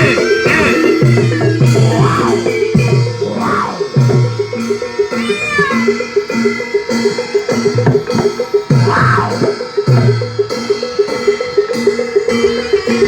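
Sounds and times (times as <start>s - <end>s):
gong or metallophone notes: 0.0s - 13.0s.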